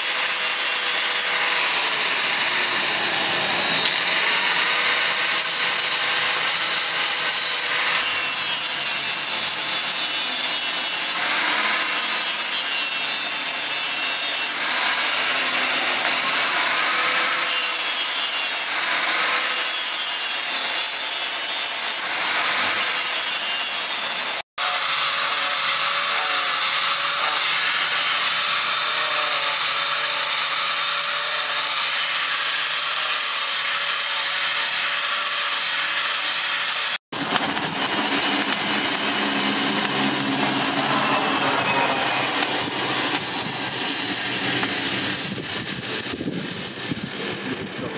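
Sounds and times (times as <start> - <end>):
grinder sanding pad on blade: 0.0 - 47.6
angle grinder grinding steel: 0.0 - 47.9.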